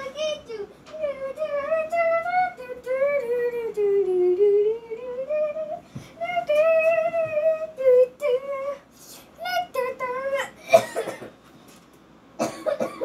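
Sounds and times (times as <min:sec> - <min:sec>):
child singing wordlessly: 0:00.0 - 0:10.6.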